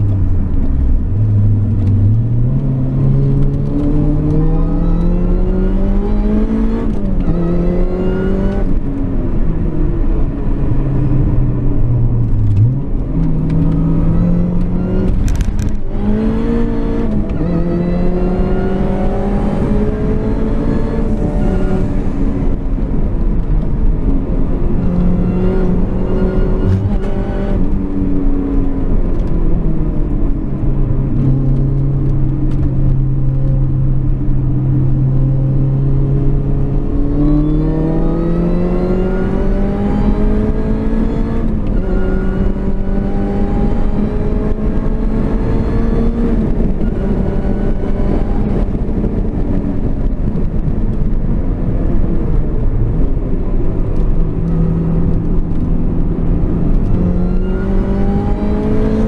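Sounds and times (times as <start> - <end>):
car engine revving from inside cabin: 0.0 - 22.6, 24.7 - 52.4, 53.2 - 59.0.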